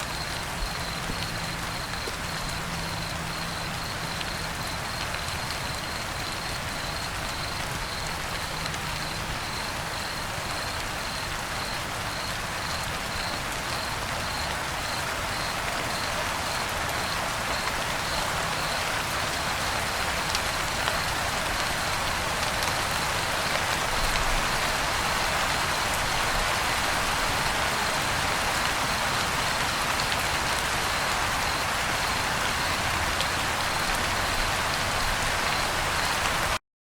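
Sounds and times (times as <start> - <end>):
crickets chirping: 0.0 - 36.5
dense steady hiss: 0.0 - 36.6.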